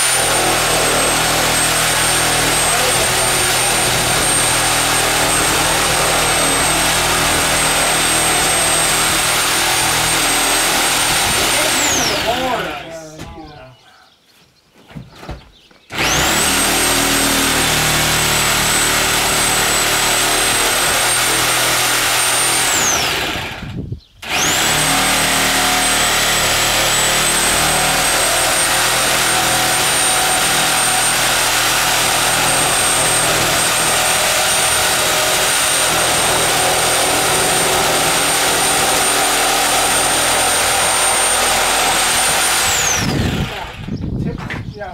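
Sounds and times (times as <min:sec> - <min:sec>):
power tool high whine: 0:00.0 - 0:12.8, 0:15.9 - 0:43.8.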